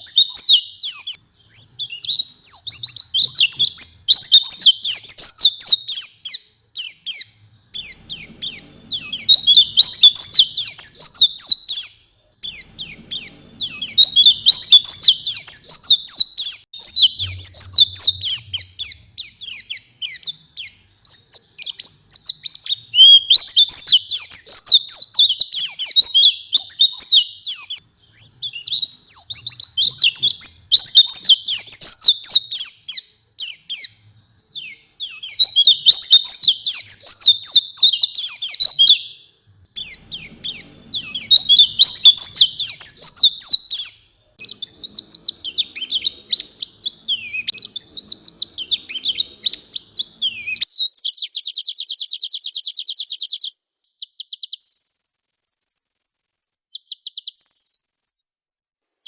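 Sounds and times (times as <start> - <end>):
bird twittering song: 0.0 - 58.2.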